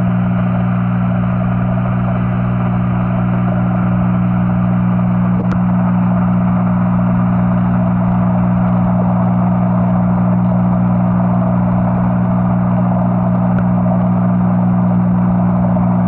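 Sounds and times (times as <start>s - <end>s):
aquarium equipment humming: 0.0s - 16.0s.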